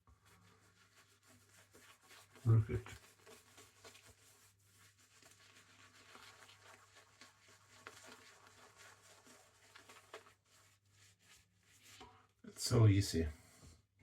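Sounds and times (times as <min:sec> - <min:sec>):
shaving brush rubbing soap: 0:00.0 - 0:12.3.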